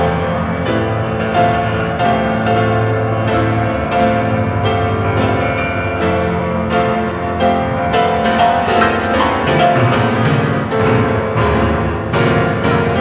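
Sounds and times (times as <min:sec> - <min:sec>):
piano playing chords: 0:00.0 - 0:13.0.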